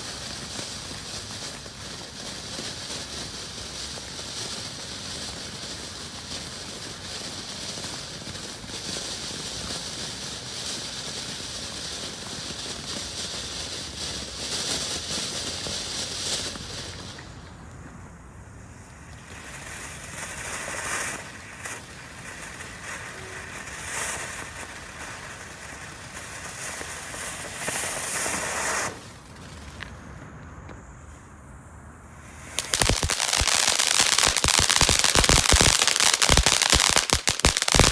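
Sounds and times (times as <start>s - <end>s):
firework fountain hissing: 0.0s - 30.2s, 32.0s - 37.9s.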